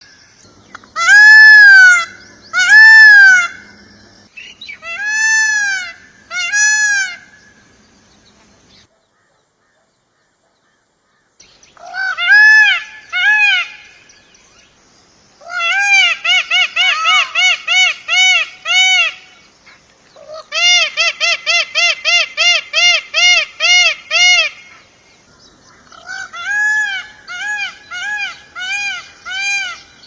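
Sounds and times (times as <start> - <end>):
peacock calling: 0.0 - 8.9, 11.7 - 14.6, 15.4 - 30.0.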